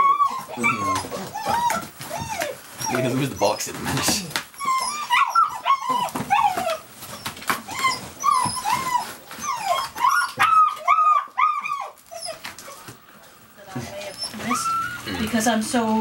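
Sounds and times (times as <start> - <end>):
puppies whining and yipping: 0.0 - 13.1, 13.8 - 15.2.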